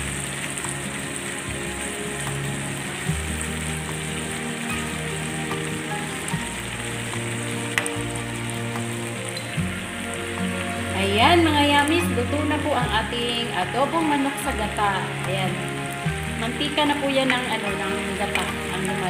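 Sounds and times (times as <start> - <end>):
chicken sizzling in a pan: 0.0 - 19.0
soft background music: 0.0 - 19.0.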